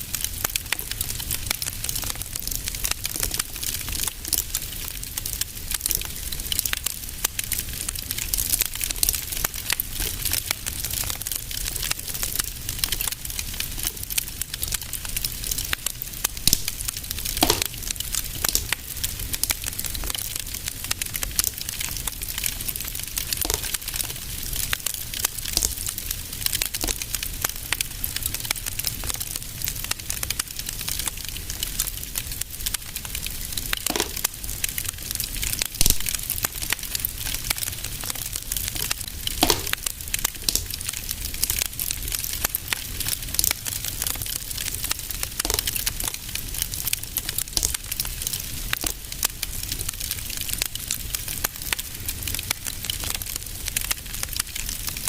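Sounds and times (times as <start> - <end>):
wood fire crackling: 0.0 - 55.0
fire pops: 0.1 - 53.2.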